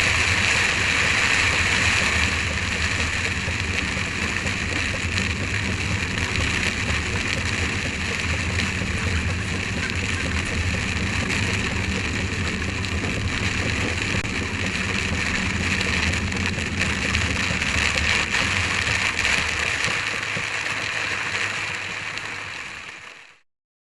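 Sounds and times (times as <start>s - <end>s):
low car drone: 0.0s - 23.4s
rain hiss on windscreen: 0.0s - 23.4s.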